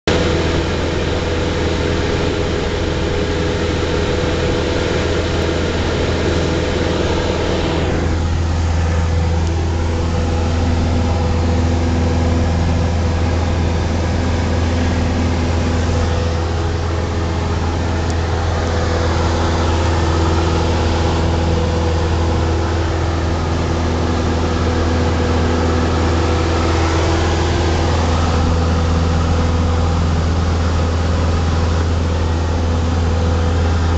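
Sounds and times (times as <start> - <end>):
propeller plane engine drone: 0.0 - 33.9.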